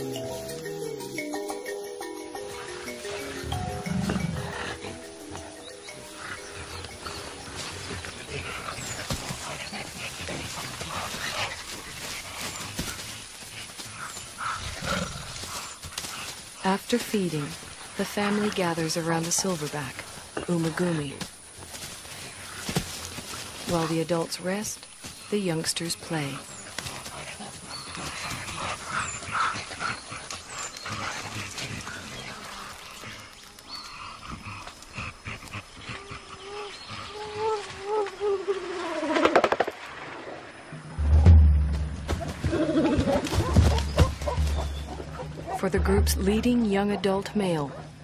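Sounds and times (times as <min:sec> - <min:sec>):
gorillas grunting and calling: 0:02.2 - 0:19.6, 0:22.2 - 0:39.6, 0:41.0 - 0:48.0.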